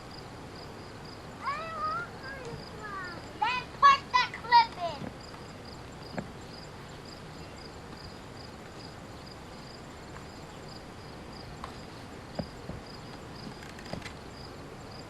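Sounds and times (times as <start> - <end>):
insect chirping: 0.0 - 15.0
outdoor hiss: 0.0 - 15.0.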